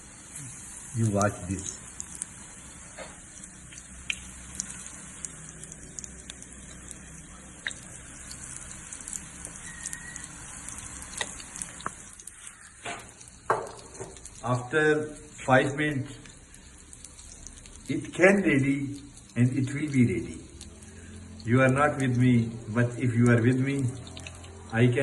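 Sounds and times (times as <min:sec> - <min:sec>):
food deep-frying in hot oil: 0:00.0 - 0:25.0.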